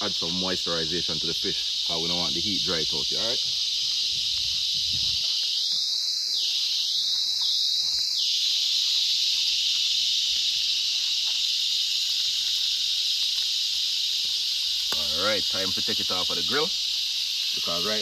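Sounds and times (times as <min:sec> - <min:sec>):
squealing hisses: 0:00.0 - 0:18.0
water hissing on hot grill: 0:00.0 - 0:18.0.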